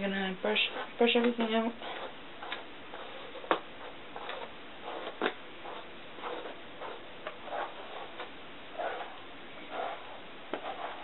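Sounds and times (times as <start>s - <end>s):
hairbrush scratching through hair: 0.5s - 11.0s.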